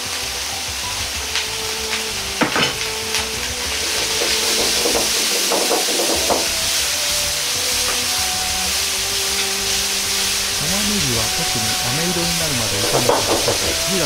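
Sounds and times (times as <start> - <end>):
meat sizzling in a wok: 0.0 - 14.0.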